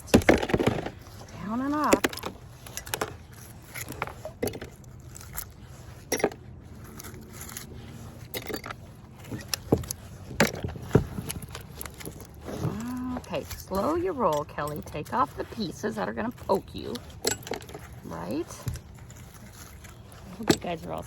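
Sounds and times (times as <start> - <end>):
metallic clinks and knocks: 0.0 - 21.0.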